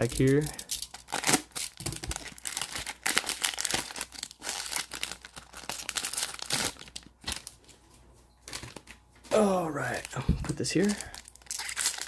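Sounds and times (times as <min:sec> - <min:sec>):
plastic wrapper crinkling: 0:00.0 - 0:07.8, 0:08.4 - 0:09.0, 0:09.8 - 0:12.0.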